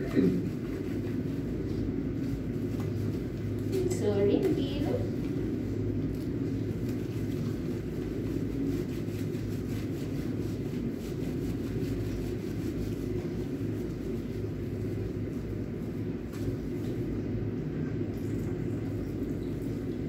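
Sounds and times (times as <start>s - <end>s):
hands rubbing wet fur: 0.0s - 20.0s
low background rumble: 0.0s - 20.0s.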